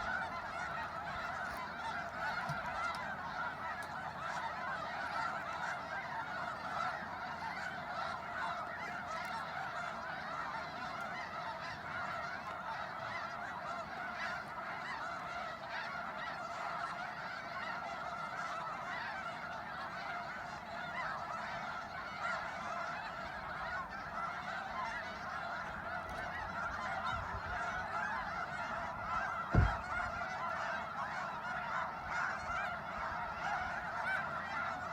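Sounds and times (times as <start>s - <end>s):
flock of waterfowl calling: 0.0s - 34.9s.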